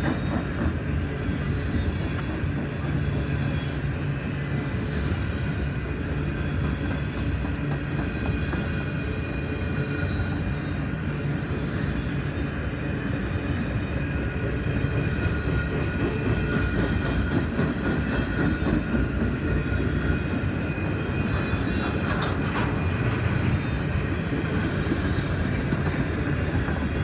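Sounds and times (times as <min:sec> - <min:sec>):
train cars rumbling on rails: 0:00.0 - 0:27.0.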